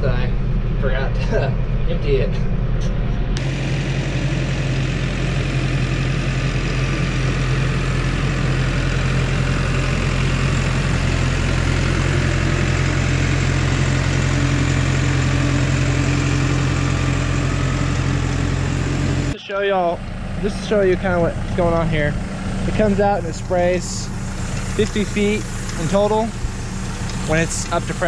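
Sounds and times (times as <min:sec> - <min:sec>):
tractor diesel engine droning: 0:00.0 - 0:28.0.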